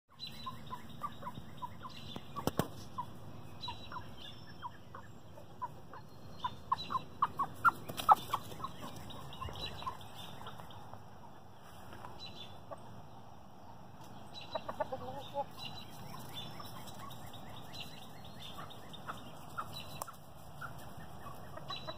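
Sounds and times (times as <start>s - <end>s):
chickens clucking: 0.1s - 21.9s.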